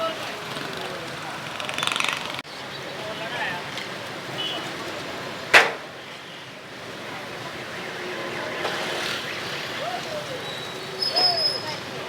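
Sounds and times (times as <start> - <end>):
street background noise: 0.0 - 12.0.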